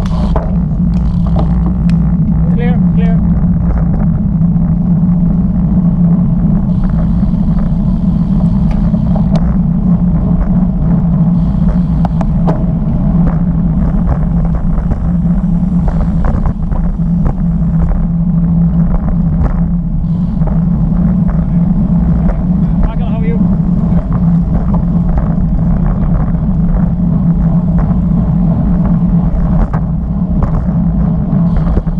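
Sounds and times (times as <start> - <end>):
bicycle tyres on asphalt: 0.0 - 31.9
wind buffeting microphone: 0.0 - 31.9.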